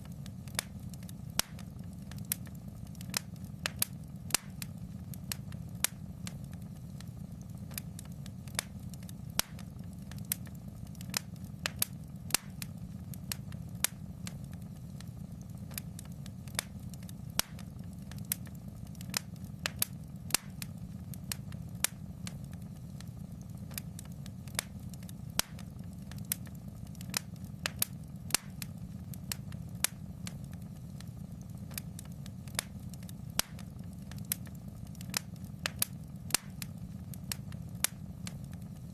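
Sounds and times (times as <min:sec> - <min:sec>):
fire crackling and popping: 0:00.0 - 0:38.9
low rumble of fire: 0:00.0 - 0:38.9.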